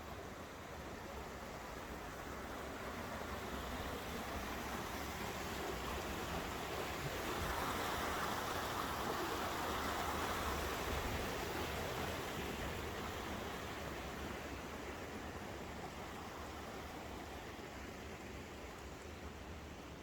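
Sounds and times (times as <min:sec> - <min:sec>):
stream rushing: 0:00.1 - 0:20.0.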